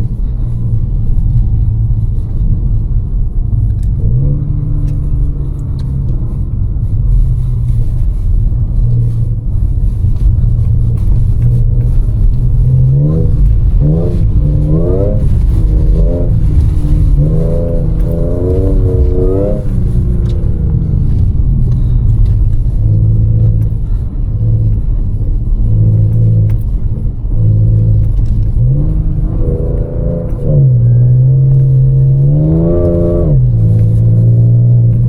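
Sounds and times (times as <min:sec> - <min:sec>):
car engine drone: 0:00.0 - 0:35.0
road rumble: 0:00.0 - 0:35.0.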